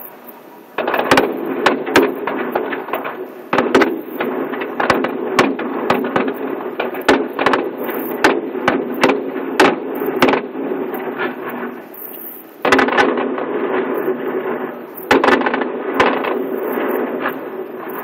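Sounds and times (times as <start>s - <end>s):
fireworks bursting: 0.0s - 18.0s
low background hum: 0.0s - 18.0s.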